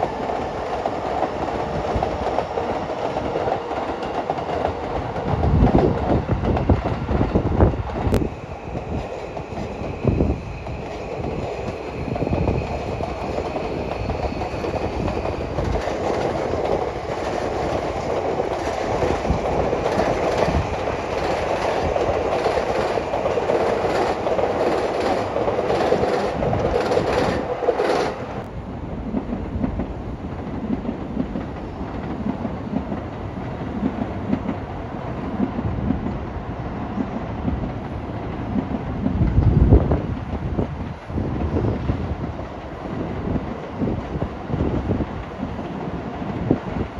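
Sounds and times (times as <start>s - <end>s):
train running on rails: 0.0s - 46.9s.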